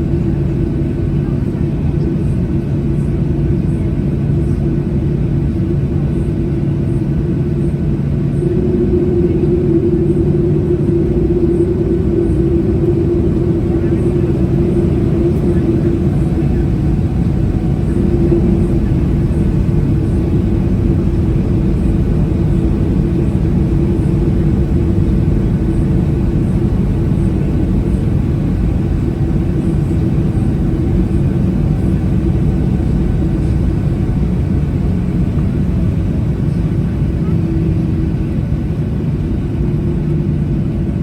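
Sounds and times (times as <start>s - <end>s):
jet engines idling in cabin: 0.0s - 41.0s.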